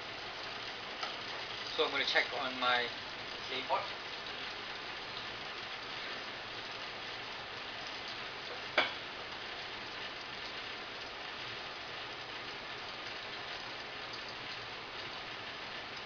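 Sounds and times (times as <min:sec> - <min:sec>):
oil sizzling in a pot: 0:00.0 - 0:16.0.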